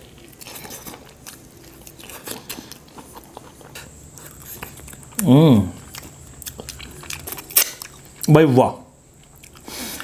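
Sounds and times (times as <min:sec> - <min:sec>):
mouth chewing wet food: 0:00.0 - 0:10.0.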